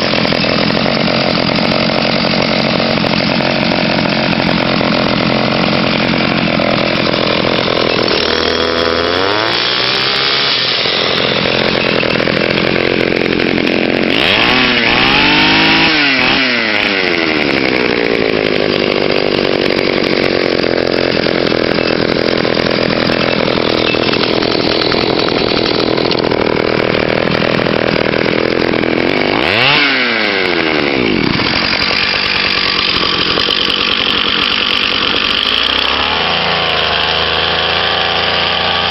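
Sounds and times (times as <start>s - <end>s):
engine revving: 0.0s - 38.9s
small two-stroke engines buzzing: 0.0s - 38.9s.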